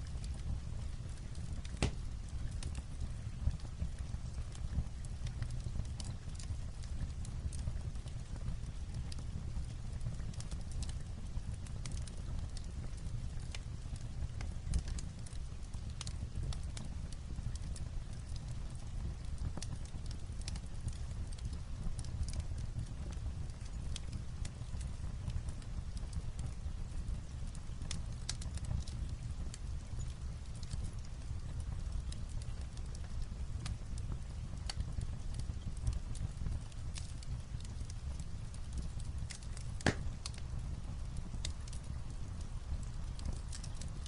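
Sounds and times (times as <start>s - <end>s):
light rain on a roof: 0.0s - 44.0s
wood fire crackling and popping: 0.0s - 44.0s.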